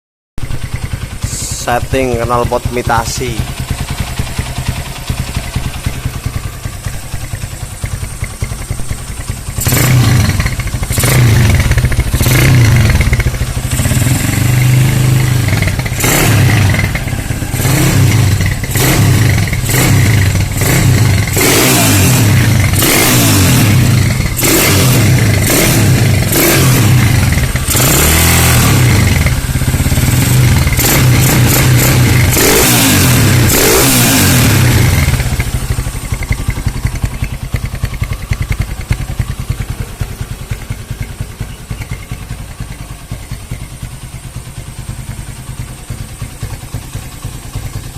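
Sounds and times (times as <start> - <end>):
motorcycle engine idling and revving: 0.4 - 47.9.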